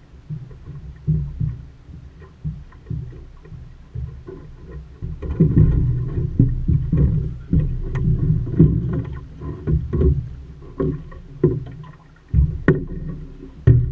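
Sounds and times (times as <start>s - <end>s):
water splashing against boat hull: 0.0s - 13.9s.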